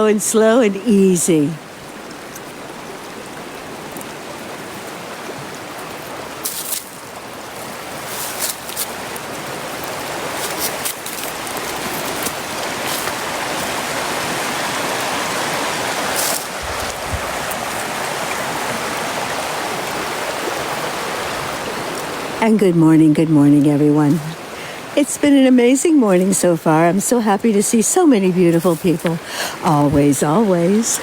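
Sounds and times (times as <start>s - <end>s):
rushing stream water: 0.0s - 31.0s.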